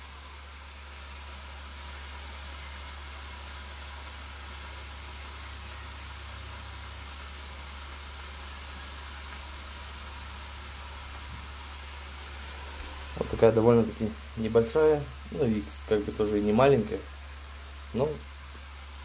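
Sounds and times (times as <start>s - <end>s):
low steady hum: 0.0s - 19.0s
steaks sizzling on contact grill: 0.1s - 19.0s.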